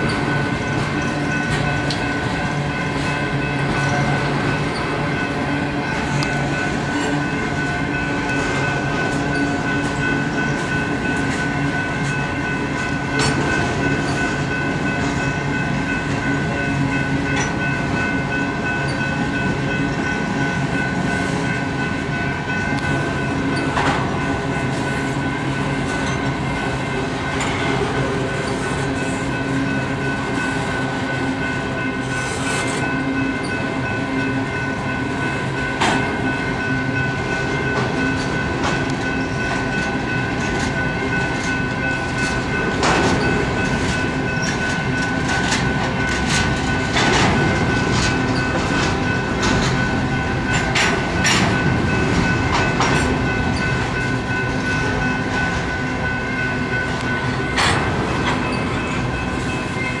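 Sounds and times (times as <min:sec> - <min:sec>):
high ringing tone: 0:00.0 - 1:00.0
train wheels rumbling on rail: 0:00.0 - 1:00.0.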